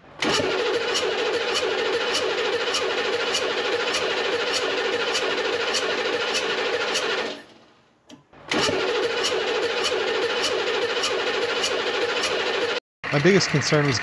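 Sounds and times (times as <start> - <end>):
diesel engine running: 0.0 - 7.8, 8.4 - 14.0.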